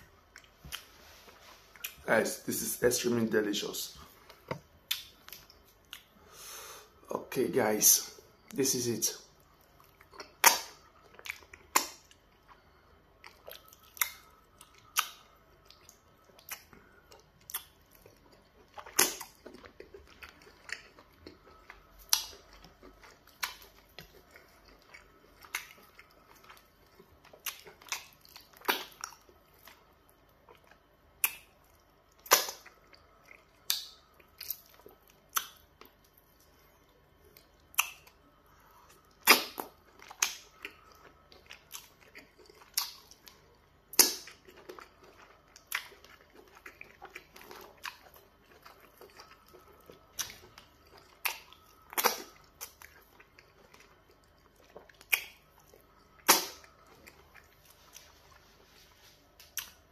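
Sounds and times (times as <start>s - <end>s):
person chewing food: 0.0s - 2.1s, 4.0s - 7.0s, 8.5s - 59.9s.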